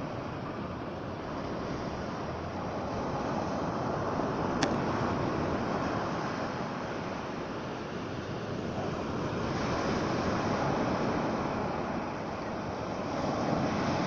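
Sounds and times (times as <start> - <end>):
waves washing on shore: 0.0 - 14.0
wind noise on microphone: 0.0 - 14.0.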